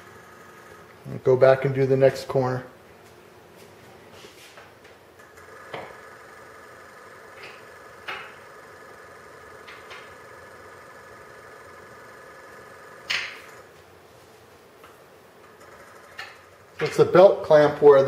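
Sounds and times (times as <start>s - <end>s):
high machine whine: 0.0s - 2.8s, 5.1s - 18.0s.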